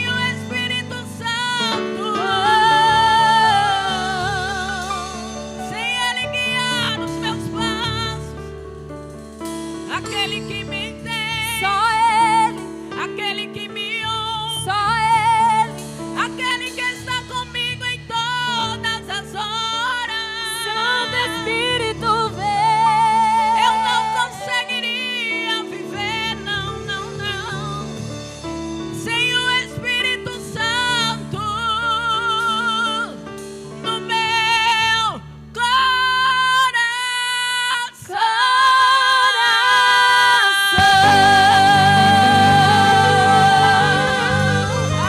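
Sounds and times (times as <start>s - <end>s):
sustained musical backing: 0.0s - 36.9s, 40.0s - 45.0s.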